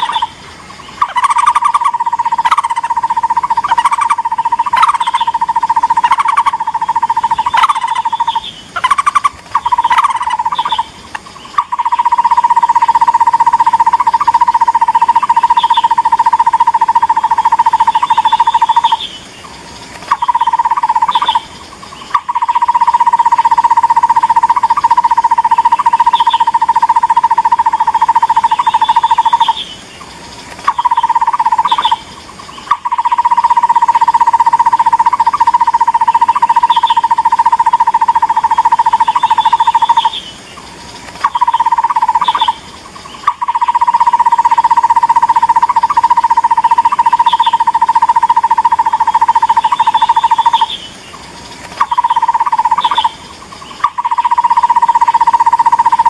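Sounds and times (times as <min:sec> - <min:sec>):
barbet calling rapid notes: 0:00.0 - 0:00.4, 0:01.0 - 0:19.1, 0:20.1 - 0:21.4, 0:22.1 - 0:29.6, 0:30.7 - 0:32.0, 0:32.6 - 0:40.2, 0:41.2 - 0:42.6, 0:43.2 - 0:50.8, 0:51.8 - 0:53.2, 0:53.8 - 0:56.0.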